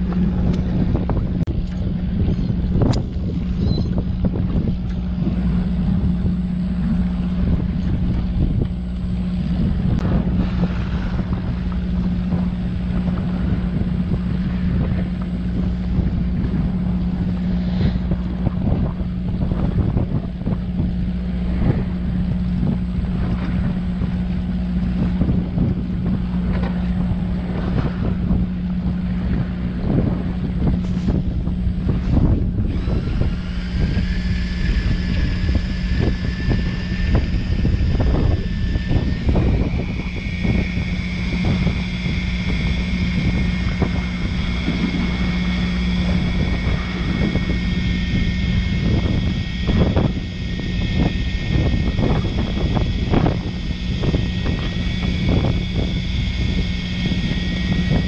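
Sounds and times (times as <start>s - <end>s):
boat engine humming: 0.0s - 58.0s
wind buffeting microphone: 0.0s - 58.0s.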